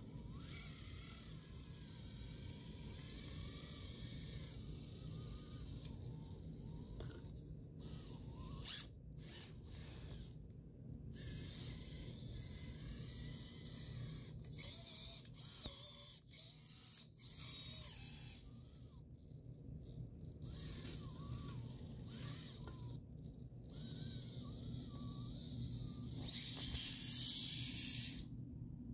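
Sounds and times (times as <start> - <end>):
small electric motor whining: 0.0 - 28.4.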